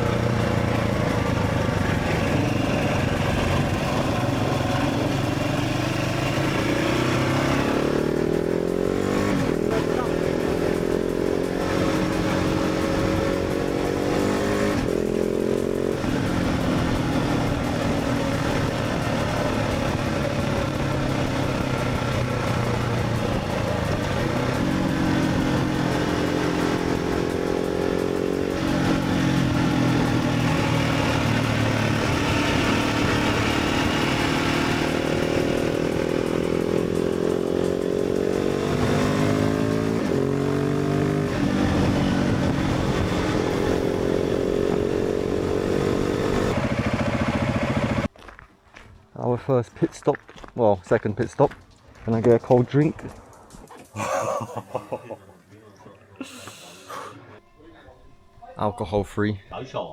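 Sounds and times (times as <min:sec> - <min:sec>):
motorcycle engine accelerating: 0:00.0 - 0:48.4
wind and road noise: 0:00.0 - 0:54.0.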